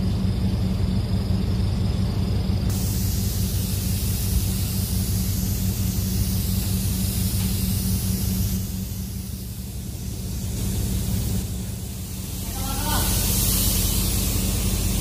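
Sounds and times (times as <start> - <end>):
low hum: 0.0 - 15.0
paint spray gun hissing: 2.7 - 15.0.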